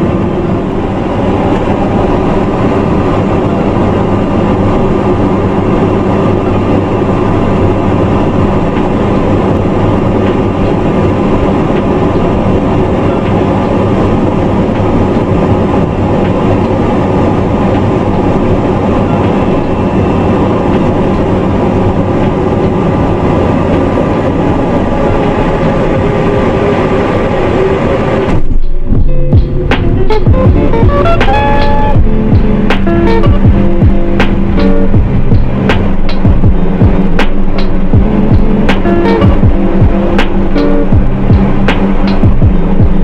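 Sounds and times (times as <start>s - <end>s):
aircraft engines droning: 0.0s - 43.0s.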